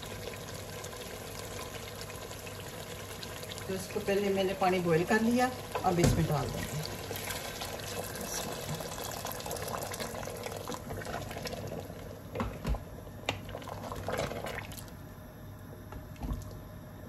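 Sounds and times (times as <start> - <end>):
hot water pouring into pot: 0.0 - 12.4, 13.4 - 15.0.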